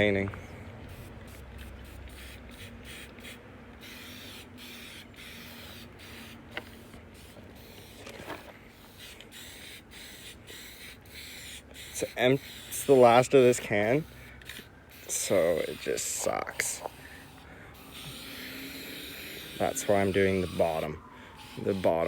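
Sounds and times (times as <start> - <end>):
spray can sputtering hisses: 0.9 - 22.0.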